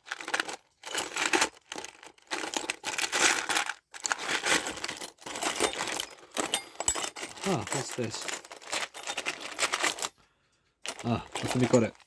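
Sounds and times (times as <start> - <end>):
small metal parts rattling: 0.0 - 12.0.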